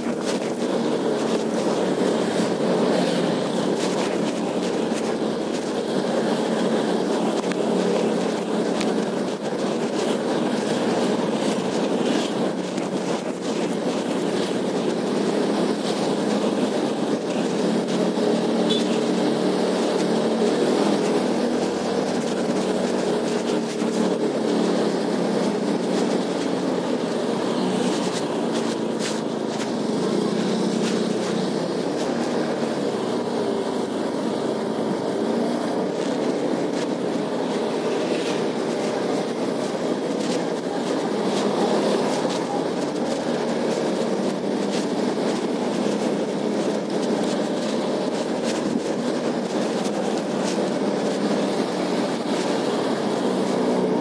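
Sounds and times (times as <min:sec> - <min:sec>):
road and wind noise: 0:00.0 - 0:54.0
scooter engine running: 0:00.0 - 0:54.0.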